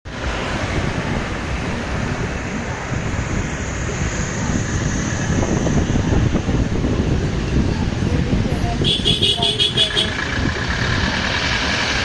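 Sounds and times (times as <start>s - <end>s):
wind blowing across microphone: 0.1s - 12.0s.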